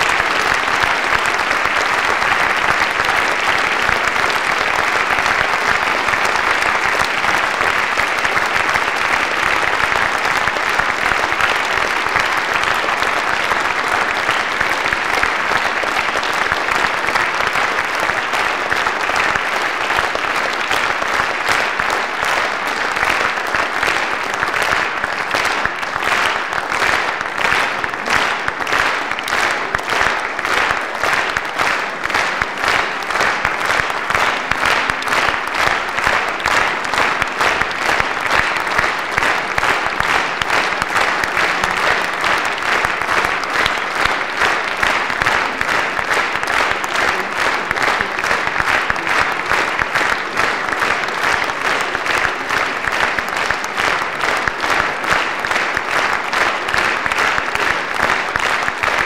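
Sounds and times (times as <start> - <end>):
audience applauding: 0.0 - 59.0
rhythmic clapping in unison: 0.0 - 59.0.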